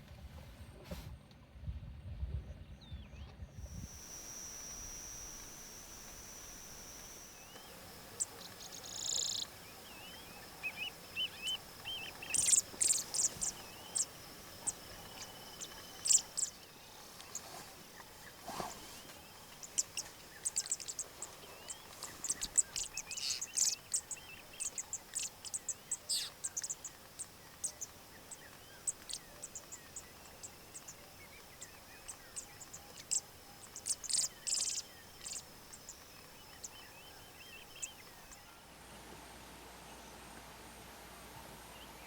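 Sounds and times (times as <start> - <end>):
birds chirping: 3.6 - 38.6
faint insect drone: 3.6 - 42.0.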